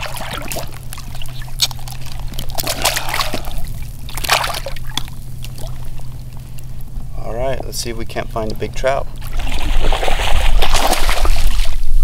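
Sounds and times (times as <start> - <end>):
shallow water splashing: 0.0 - 7.1, 8.0 - 12.0
steady low rumble: 0.0 - 12.0.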